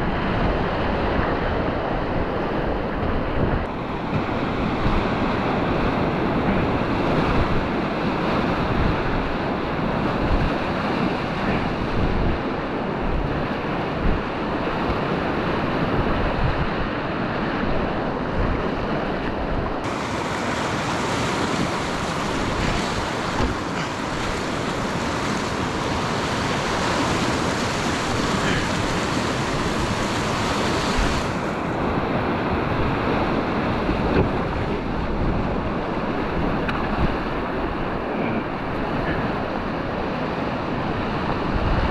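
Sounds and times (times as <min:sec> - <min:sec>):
river rapids roaring: 0:00.0 - 0:41.9.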